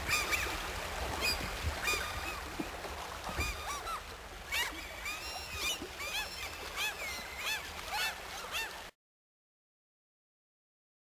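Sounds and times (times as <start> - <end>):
flock of waterbirds calling: 0.0 - 9.0.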